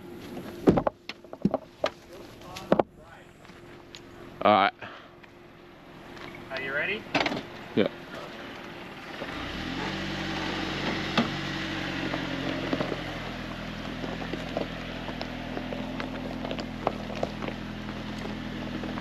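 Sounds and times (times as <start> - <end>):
vehicle engine under load: 0.0 - 19.0.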